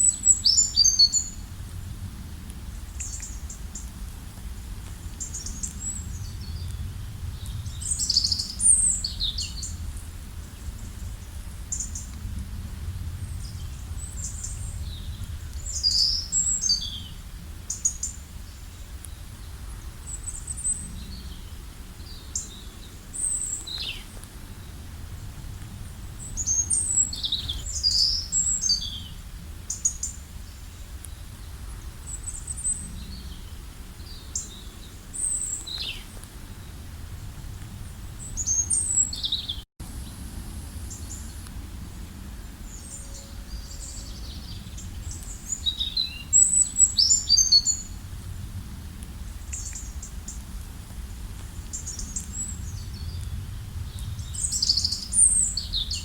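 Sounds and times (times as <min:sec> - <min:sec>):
songbirds chirping: 0:00.0 - 0:36.8, 0:37.8 - 0:48.2, 0:48.9 - 0:56.0.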